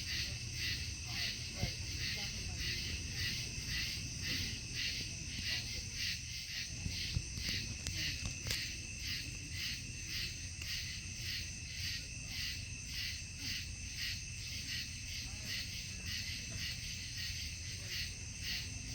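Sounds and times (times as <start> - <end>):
night insects chirping: 0.0 - 18.9.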